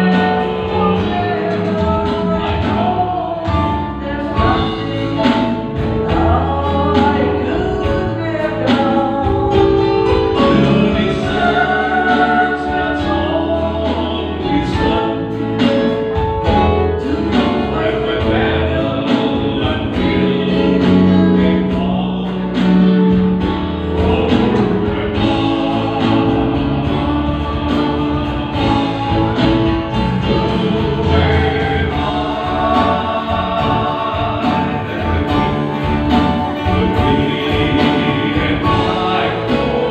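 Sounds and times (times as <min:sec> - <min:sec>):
gospel song with singing: 0:00.0 - 0:39.9.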